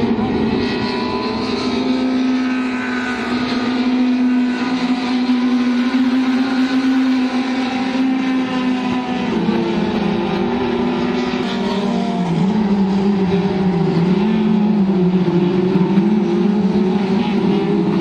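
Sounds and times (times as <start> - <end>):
race car engines at high revs: 0.0 - 18.0.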